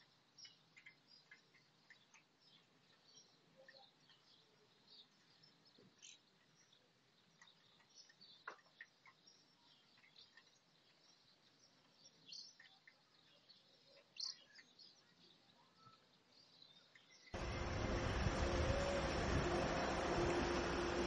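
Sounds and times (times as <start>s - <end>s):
bird chirps: 0.0s - 21.0s
quiet outdoor hiss: 0.0s - 21.0s.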